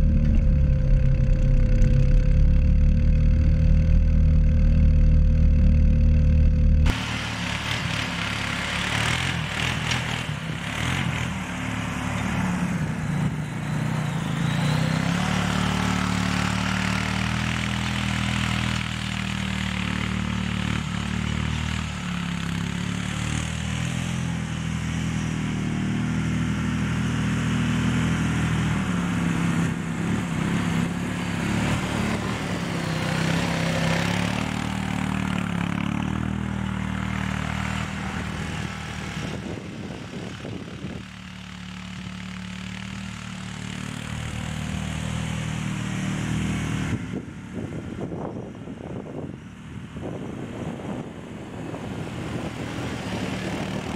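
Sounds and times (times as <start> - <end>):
atv engine running under load: 0.0 - 53.9.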